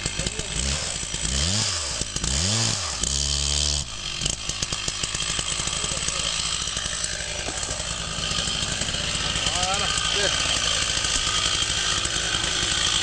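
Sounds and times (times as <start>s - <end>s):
chainsaw revving and idling: 0.0s - 13.0s.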